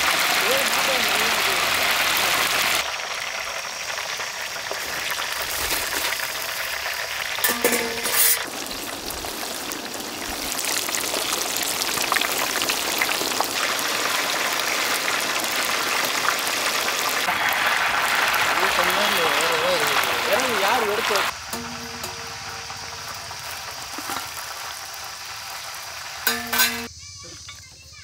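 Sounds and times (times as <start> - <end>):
oil sizzling: 0.0 - 26.9.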